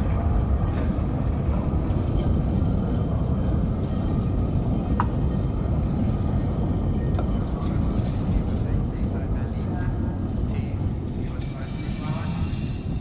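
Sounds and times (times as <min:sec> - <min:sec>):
trams rumbling: 0:00.0 - 0:13.0.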